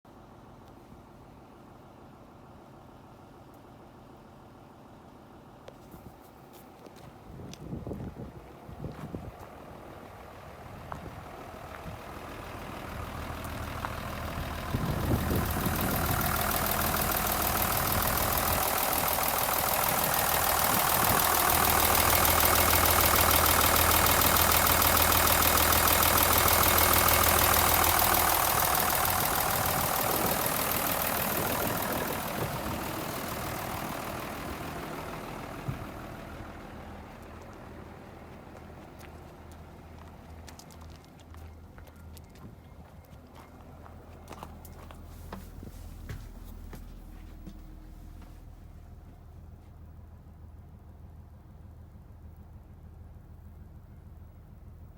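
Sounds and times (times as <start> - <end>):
diesel bus engine running: 0.1 - 54.9.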